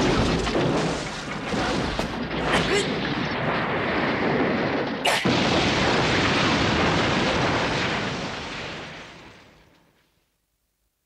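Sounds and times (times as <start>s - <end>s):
cartoon explosion rumbling blast: 0.0s - 9.6s.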